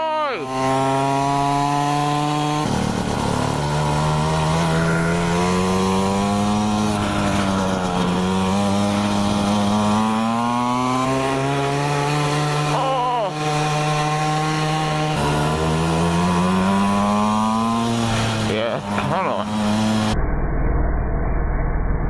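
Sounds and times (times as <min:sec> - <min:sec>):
small two-stroke engine revving: 0:00.0 - 0:20.2.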